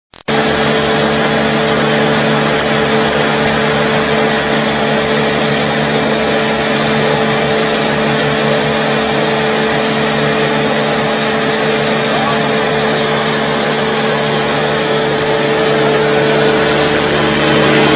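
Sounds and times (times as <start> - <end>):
machine motor humming: 0.2 - 17.9
even rushing noise: 0.3 - 17.9.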